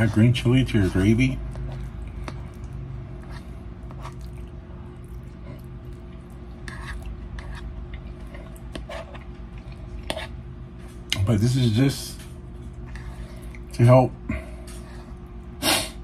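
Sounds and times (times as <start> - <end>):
steady low hum: 0.0 - 16.0
man chewing food: 1.4 - 11.2, 12.2 - 15.6.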